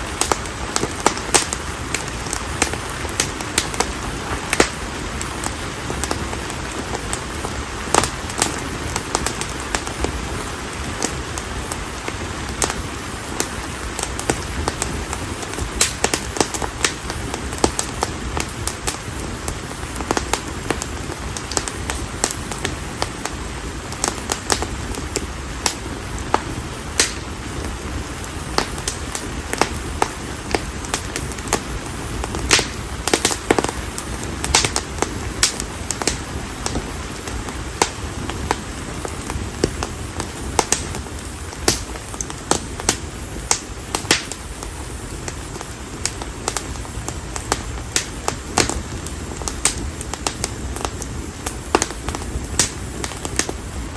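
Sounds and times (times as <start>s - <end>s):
fire crackling and popping: 0.0s - 53.9s
rush of flame: 0.0s - 53.9s.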